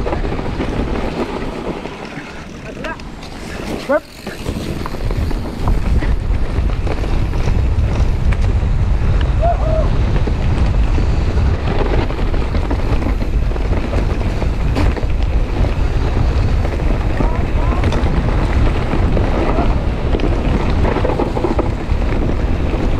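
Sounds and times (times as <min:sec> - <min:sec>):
tyres rolling over dirt: 0:00.0 - 0:22.9
wind buffeting microphone: 0:00.0 - 0:22.9.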